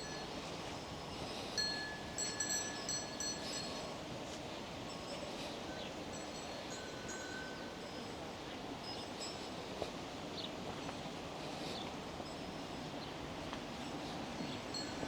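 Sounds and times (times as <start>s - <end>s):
soft outdoor hiss: 0.0s - 15.0s.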